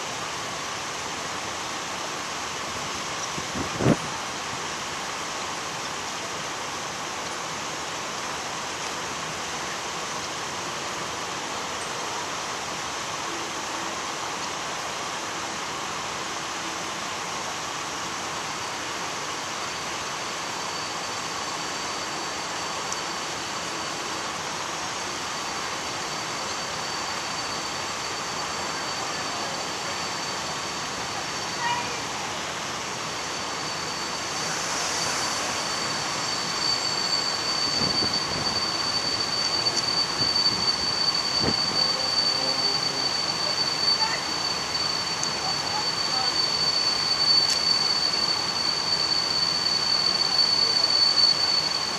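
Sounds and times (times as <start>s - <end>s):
freight train rushing: 0.0s - 51.9s
faint high wheel squeal: 9.6s - 51.9s.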